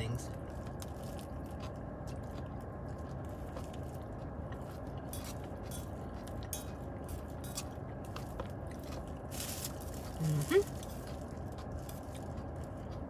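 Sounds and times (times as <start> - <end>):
steady low hum: 0.0 - 13.0
person chewing: 0.6 - 13.0.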